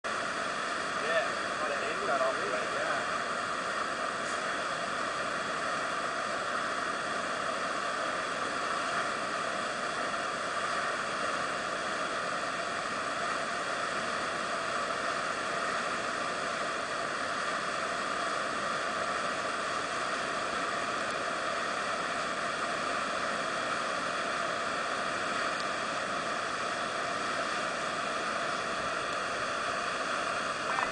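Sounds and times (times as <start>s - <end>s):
whitewater rushing: 0.1s - 30.9s.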